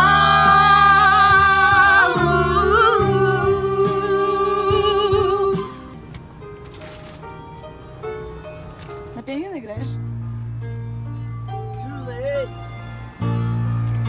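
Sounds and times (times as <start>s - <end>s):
backing music: 0.0s - 14.0s.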